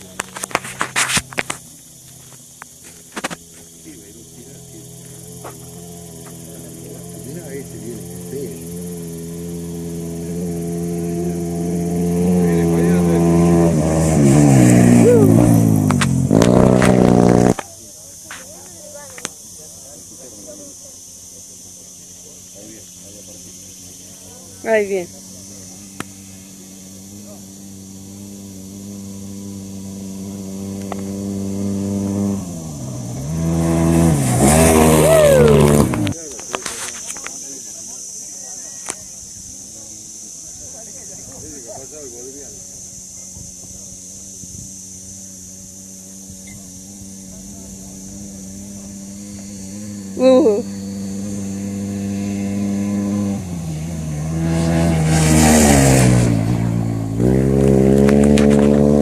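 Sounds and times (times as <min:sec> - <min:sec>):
motorcycle engine revving: 0:00.0 - 0:38.0, 0:38.8 - 0:59.0.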